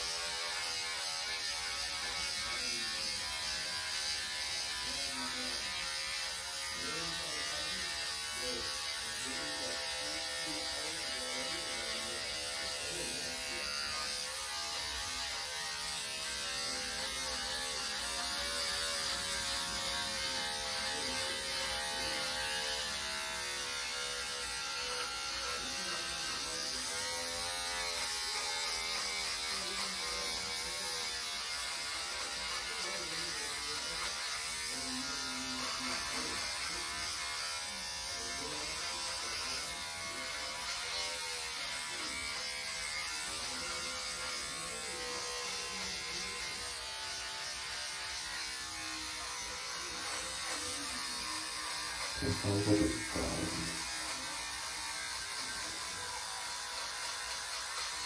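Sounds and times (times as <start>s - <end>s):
electric shaver buzzing: 0.0s - 58.0s.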